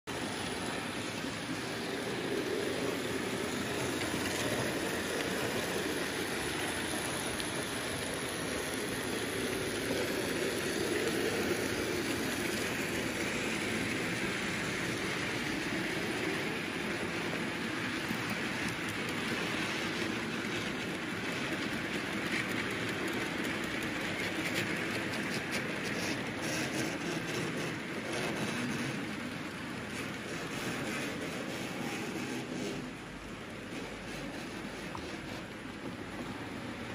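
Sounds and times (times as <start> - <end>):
model train running on track: 0.1 - 36.9.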